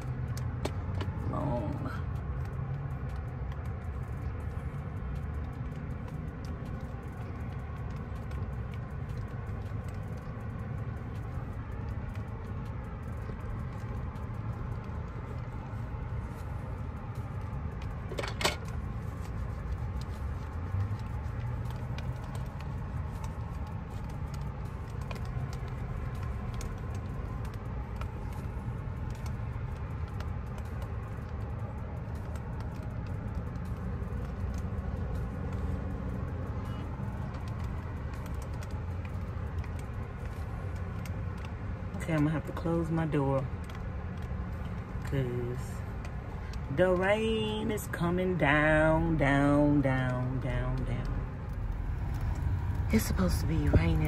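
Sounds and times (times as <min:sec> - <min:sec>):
rain rumbling: 0:00.0 - 0:48.4, 0:50.2 - 0:54.0.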